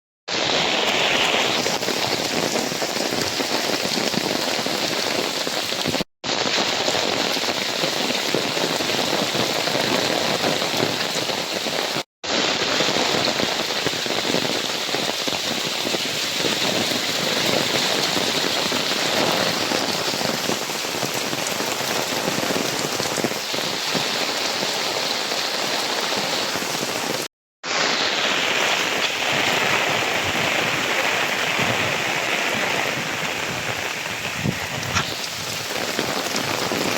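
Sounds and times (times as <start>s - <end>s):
heavy rain hissing: 0.3s - 36.9s.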